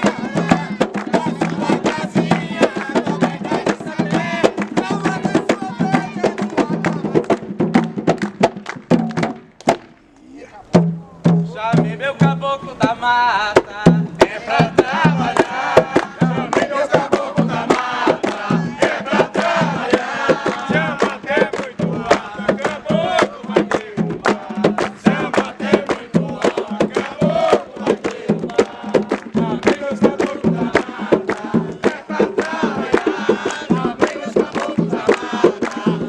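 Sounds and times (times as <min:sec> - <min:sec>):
group singing a chant: 0:00.0 - 0:07.5, 0:10.1 - 0:36.0
steady drum beat: 0:00.0 - 0:36.0.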